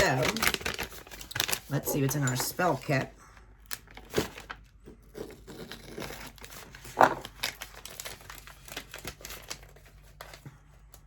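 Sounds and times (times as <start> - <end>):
packaging crinkling and rustling: 0.0 - 3.0, 3.6 - 4.8, 5.6 - 10.6.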